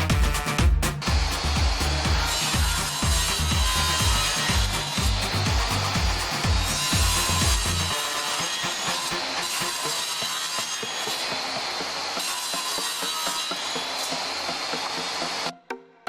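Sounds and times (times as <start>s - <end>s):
power tool cutting wood: 0.0s - 15.5s
background music beat: 0.0s - 16.0s.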